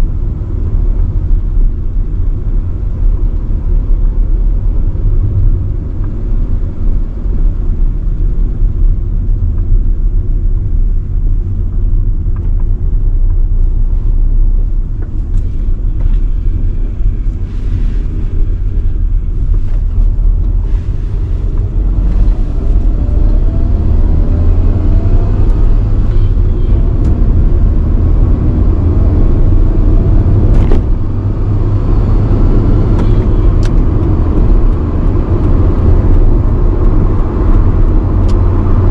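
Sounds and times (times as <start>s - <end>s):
car engine accelerating: 0.0s - 38.9s
road rumble: 0.0s - 38.9s.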